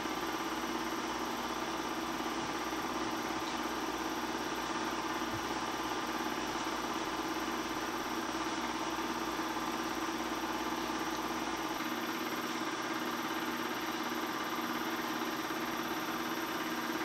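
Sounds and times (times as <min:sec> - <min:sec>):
film projector running: 0:00.0 - 0:17.0.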